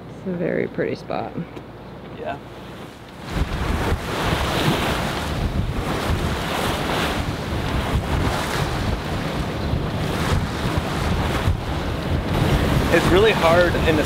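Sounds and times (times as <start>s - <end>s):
waves splashing against hull: 2.4s - 14.0s
wind buffeting microphone: 2.6s - 14.0s.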